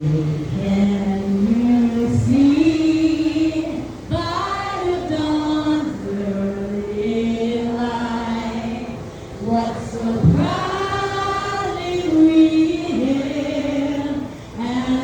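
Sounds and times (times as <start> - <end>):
voices singing slow melody: 0.0 - 15.0.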